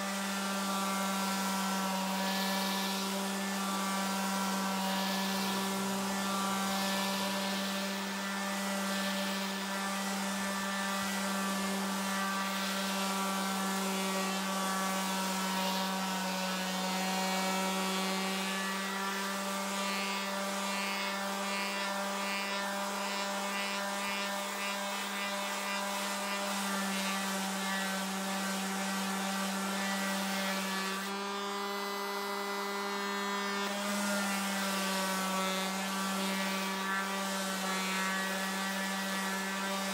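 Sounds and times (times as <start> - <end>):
orbital sander buzzing: 0.0 - 39.9.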